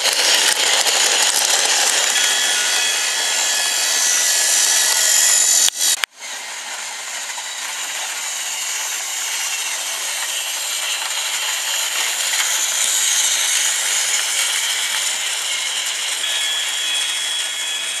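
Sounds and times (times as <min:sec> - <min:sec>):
toy train motor whirring and rattling: 0:00.0 - 0:18.0.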